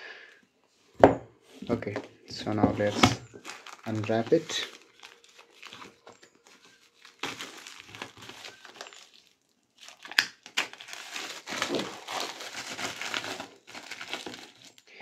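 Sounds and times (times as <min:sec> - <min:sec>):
plastic wrap crinkling: 0:01.5 - 0:15.0
sharp plastic crackle: 0:02.8 - 0:15.0.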